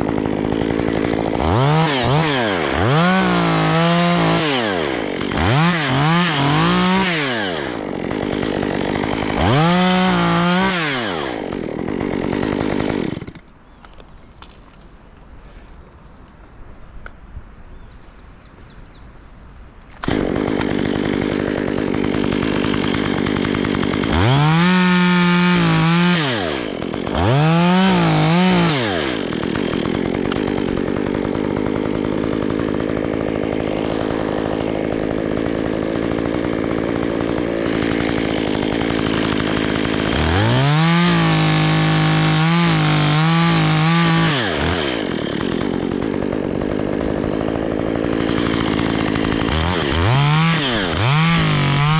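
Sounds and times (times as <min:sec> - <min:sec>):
chainsaw engine idling and revving: 0:00.0 - 0:14.6, 0:20.0 - 0:51.9.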